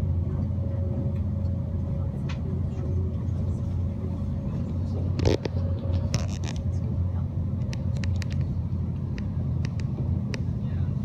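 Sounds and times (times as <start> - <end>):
train cabin rumble: 0.0 - 11.0.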